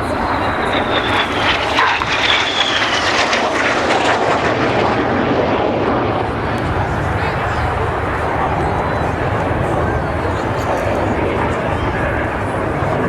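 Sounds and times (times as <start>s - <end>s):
high jet whine falling in pitch: 0.0s - 13.0s
jets flying overhead: 0.0s - 13.0s.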